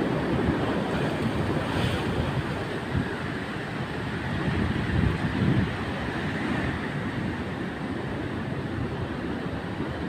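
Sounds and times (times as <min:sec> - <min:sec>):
storm surf breaking on beach: 0:00.0 - 0:10.0.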